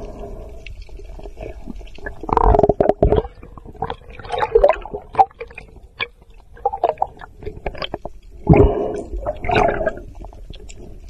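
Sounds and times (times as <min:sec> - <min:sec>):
underwater clicks and crackles: 0:00.0 - 0:11.0
bubbly gurgles: 0:00.9 - 0:10.9.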